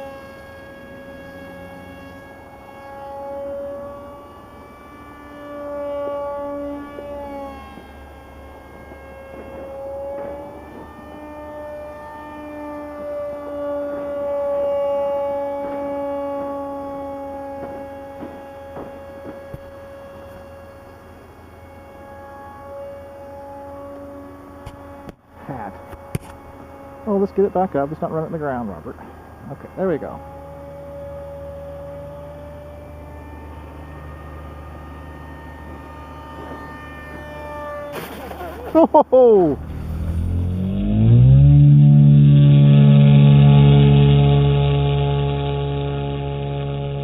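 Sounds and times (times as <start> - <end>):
model airplane motor whine: 0.0 - 47.0.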